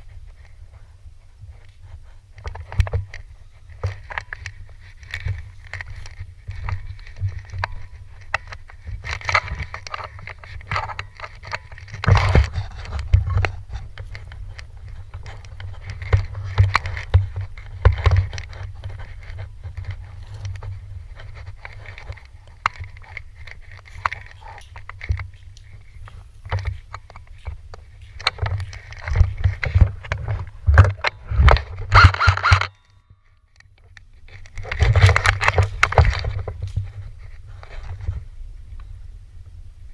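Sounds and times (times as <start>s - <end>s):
irregular clicks and knocks: 2.3s - 38.1s.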